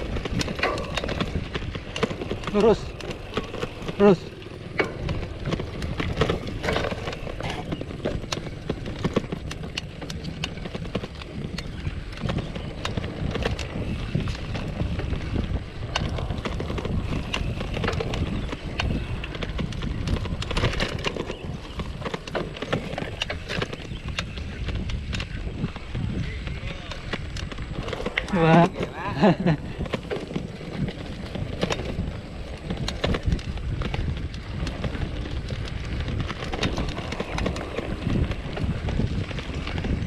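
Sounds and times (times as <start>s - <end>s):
bike clicks and rattles: 0.0s - 40.0s
bike tyres rumbling on dirt: 0.0s - 40.0s.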